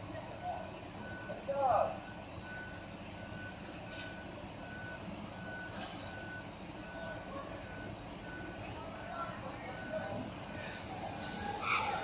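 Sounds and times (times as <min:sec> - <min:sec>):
diesel engines running: 0:00.0 - 0:12.0
truck reversing alarm beeping: 0:00.0 - 0:12.0.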